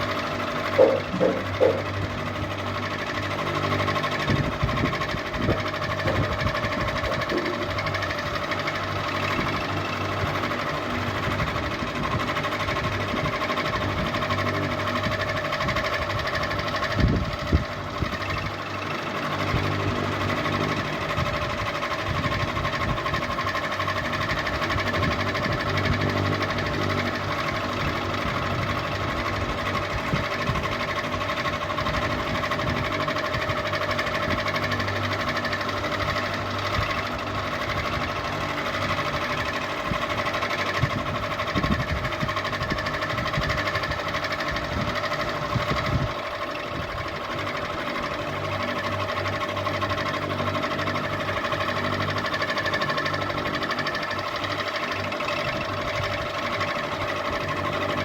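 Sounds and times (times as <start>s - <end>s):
ceiling fan motor whirring: 0.0s - 58.0s
fast fine rattle: 0.0s - 58.0s.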